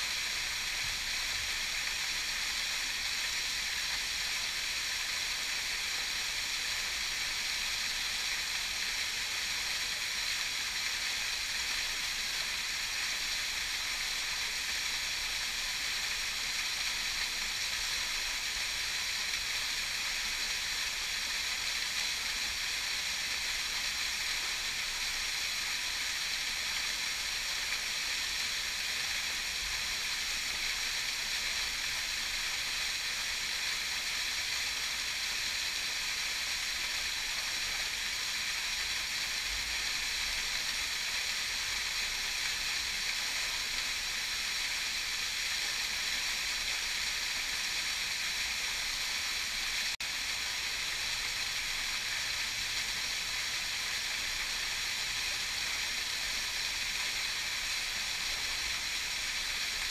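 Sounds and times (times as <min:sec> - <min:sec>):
waterfall rushing hiss: 0:00.0 - 0:59.9.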